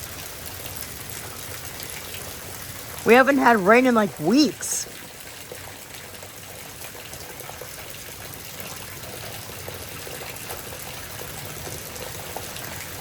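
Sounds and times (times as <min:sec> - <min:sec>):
torrential rain pouring: 0:00.0 - 0:13.0
water splashing and running off: 0:00.0 - 0:13.0.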